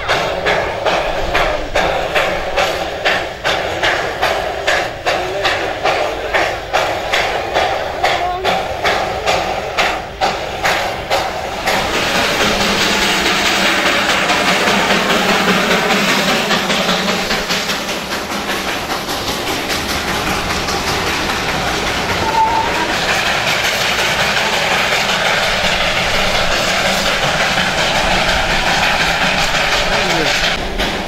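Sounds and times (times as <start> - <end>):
carriages clattering on rails: 0.0 - 31.0
steam hissing: 0.0 - 31.0.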